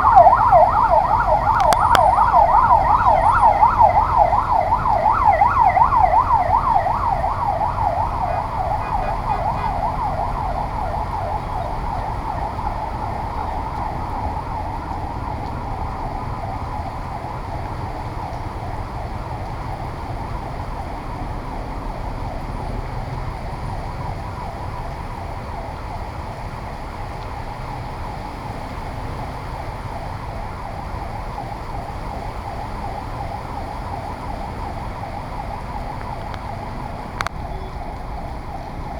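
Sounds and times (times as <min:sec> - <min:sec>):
emergency siren yelping: 0:00.0 - 0:38.9
low rumble of street noise: 0:00.0 - 0:38.9.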